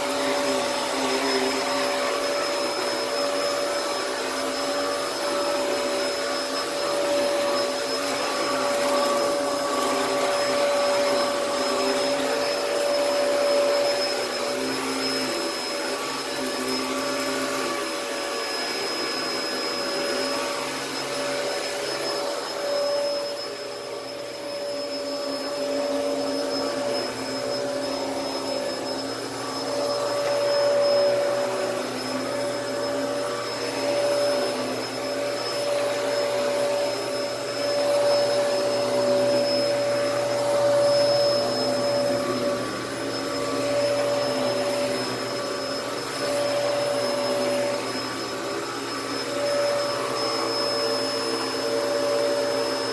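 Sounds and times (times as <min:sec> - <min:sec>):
upright vacuum cleaner whining: 0:00.0 - 0:52.9.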